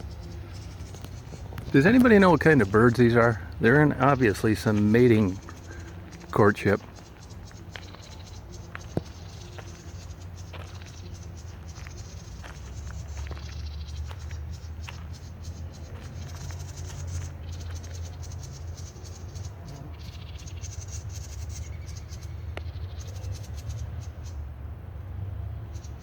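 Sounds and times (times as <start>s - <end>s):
birds chattering: 0.0s - 24.5s.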